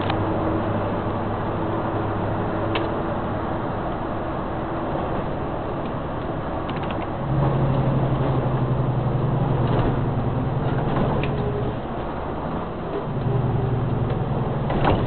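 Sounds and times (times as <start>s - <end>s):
road and engine noise: 0.0s - 15.0s.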